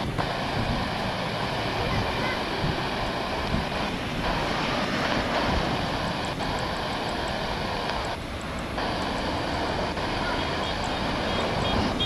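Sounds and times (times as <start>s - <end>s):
jet engines rushing: 0.0s - 12.0s
wind buffeting microphone: 0.0s - 12.0s.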